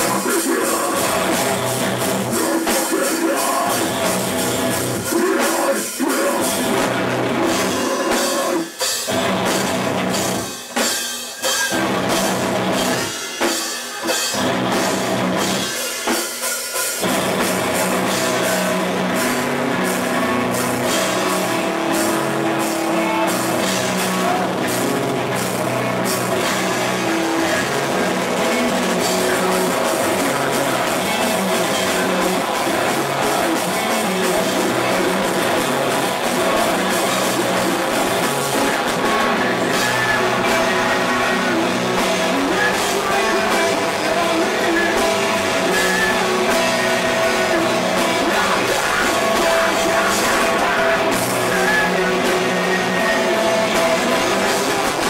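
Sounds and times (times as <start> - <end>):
person singing into a microphone: 0.0 - 4.1, 4.8 - 8.8, 18.3 - 55.0
bass guitar: 0.0 - 16.2, 16.8 - 55.0
distorted electric guitars: 0.0 - 55.0
drum kit: 0.0 - 55.0.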